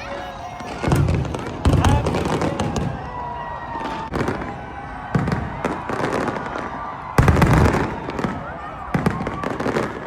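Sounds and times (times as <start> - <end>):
firework bangs: 0.0 - 10.0.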